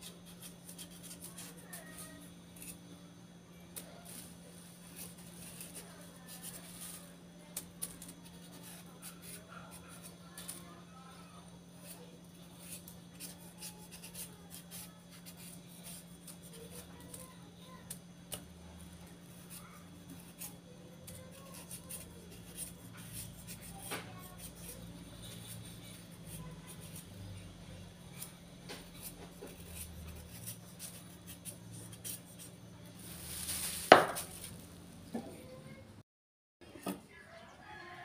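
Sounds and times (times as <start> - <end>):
knife scraping carrot: 0.0 - 2.8, 3.8 - 18.4, 19.3 - 27.4, 28.1 - 34.6.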